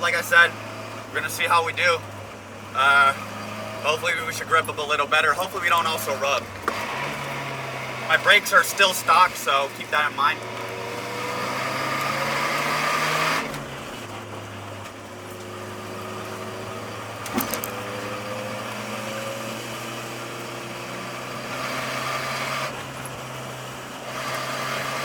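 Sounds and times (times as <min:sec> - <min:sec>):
car engine under throttle: 0:00.0 - 0:25.0.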